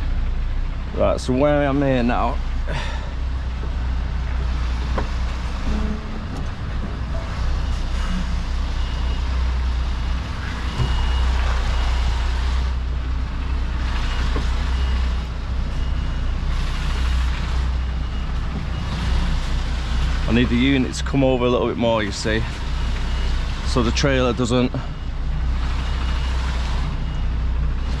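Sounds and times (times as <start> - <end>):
diesel engine running: 0.0 - 28.0
reversing alarm beeping: 3.8 - 28.0.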